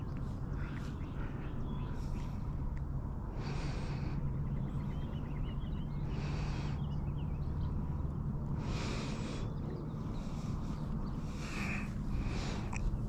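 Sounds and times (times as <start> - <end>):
low steady hum: 0.0 - 13.0
slow breathing: 0.4 - 5.0, 5.7 - 13.0.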